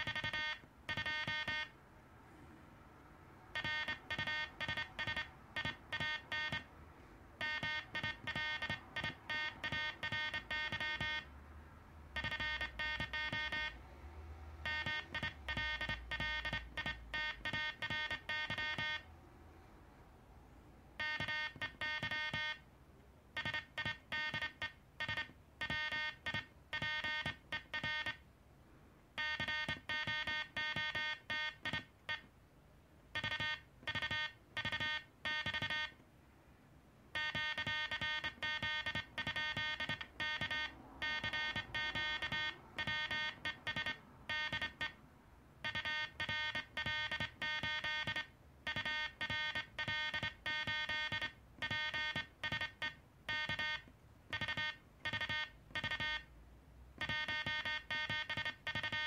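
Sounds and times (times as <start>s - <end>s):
morse code tone: 0.0s - 1.8s, 3.6s - 6.7s, 7.4s - 11.3s, 12.2s - 13.8s, 14.6s - 19.1s, 21.0s - 22.6s, 23.4s - 28.2s, 29.2s - 32.3s, 33.2s - 36.0s, 37.2s - 45.0s, 45.6s - 56.3s, 57.0s - 59.0s.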